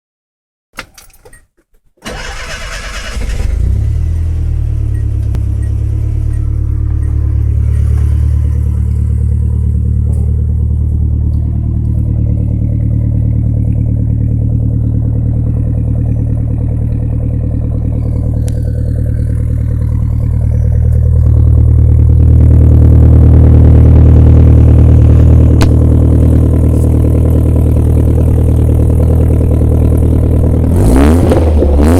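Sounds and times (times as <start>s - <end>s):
car engine cranking: 0.8s - 23.4s, 24.5s - 31.9s
car engine idling: 2.0s - 30.9s.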